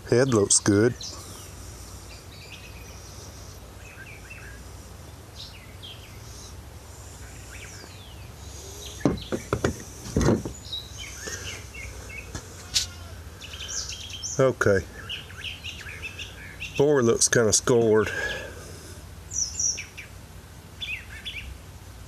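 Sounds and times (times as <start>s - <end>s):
small birds chirping: 0.0s - 21.6s.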